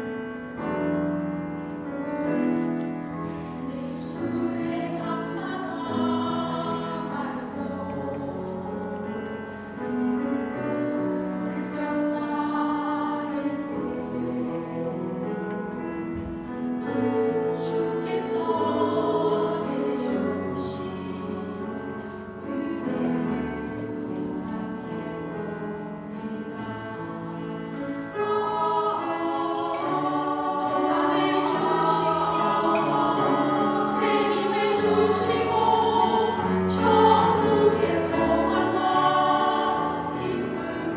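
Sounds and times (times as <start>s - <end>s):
vocal ensemble singing gospel: 3.4s - 9.0s, 10.5s - 40.9s.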